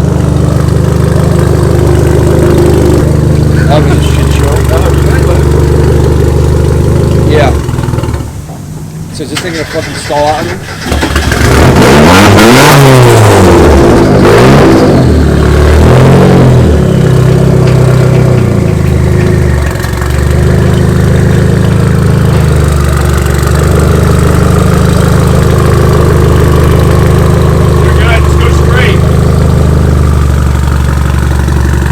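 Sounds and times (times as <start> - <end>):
car engine revving and idling: 0.0 - 31.9.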